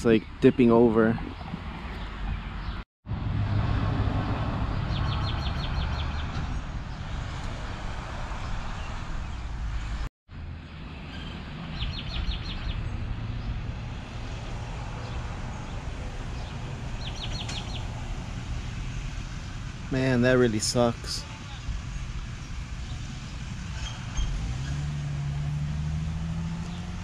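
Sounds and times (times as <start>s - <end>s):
rumble of vehicles: 0.0s - 27.0s.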